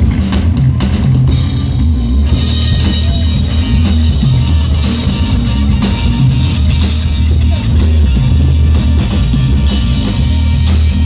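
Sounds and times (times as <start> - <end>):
bass guitar: 0.0 - 11.0
drum kit: 0.0 - 11.0
electric guitars: 0.0 - 11.0.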